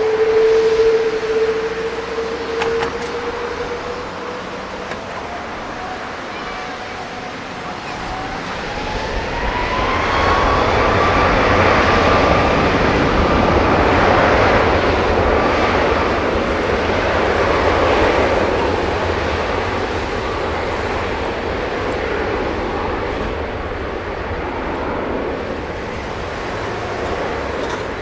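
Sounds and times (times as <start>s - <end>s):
jet engines roaring with whine: 0.0s - 28.0s.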